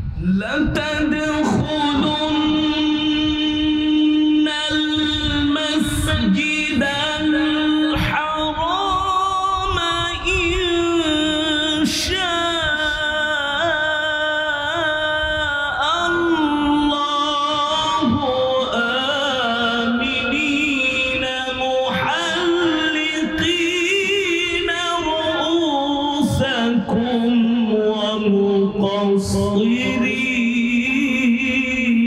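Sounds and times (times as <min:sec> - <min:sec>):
man chanting recitation: 0:00.0 - 0:32.0.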